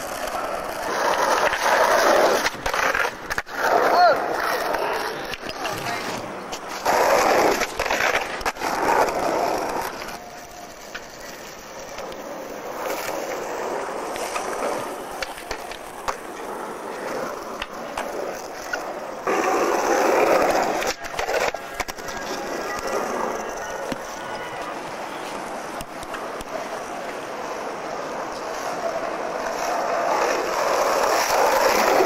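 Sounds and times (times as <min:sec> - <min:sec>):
skateboard clicks and knocks: 0:00.0 - 0:32.0
skateboard wheels rolling on asphalt: 0:00.0 - 0:32.0.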